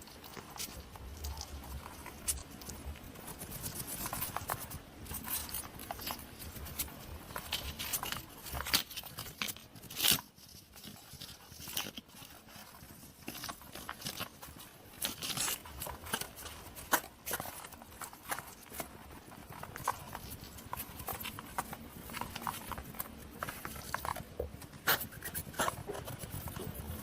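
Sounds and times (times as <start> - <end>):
hedgehog clicking and rustling: 0.0 - 27.0.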